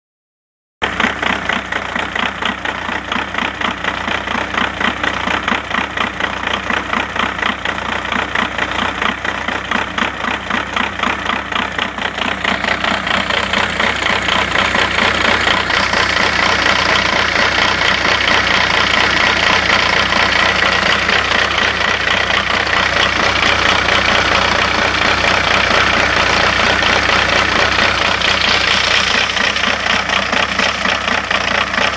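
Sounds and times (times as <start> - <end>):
diesel engine idling roughly: 0.8 - 31.9.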